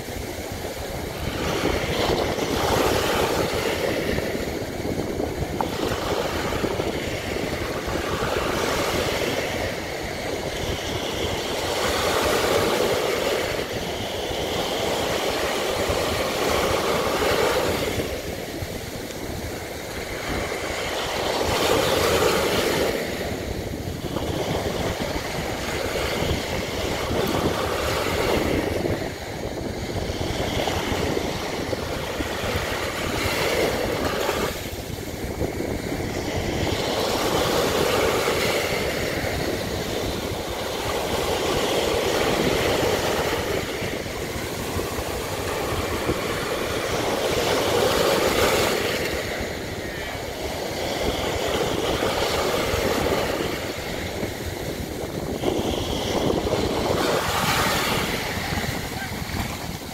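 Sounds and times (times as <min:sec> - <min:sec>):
sea waves breaking on sand: 0:00.0 - 0:59.9.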